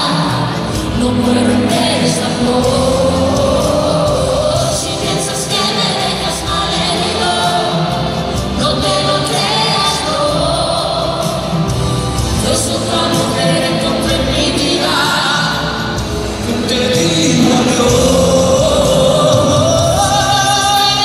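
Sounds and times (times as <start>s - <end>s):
live pop song with singers: 0.0s - 21.0s.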